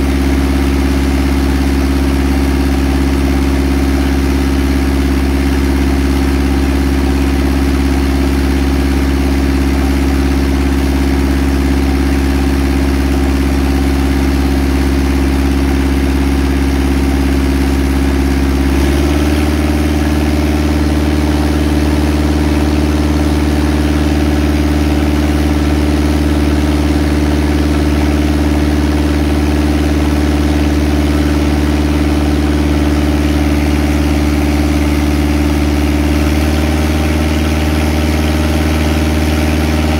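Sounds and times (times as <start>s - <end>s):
engine running steadily: 0.0s - 39.9s
pump running: 0.0s - 39.9s.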